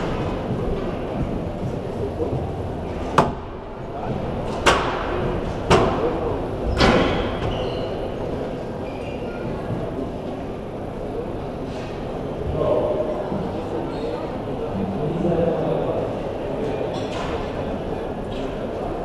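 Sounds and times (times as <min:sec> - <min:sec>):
background hubbub: 0:00.0 - 0:19.0.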